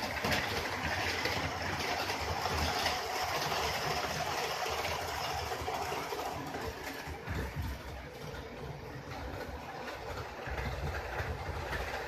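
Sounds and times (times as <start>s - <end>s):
model train rolling on track: 0.0s - 12.0s.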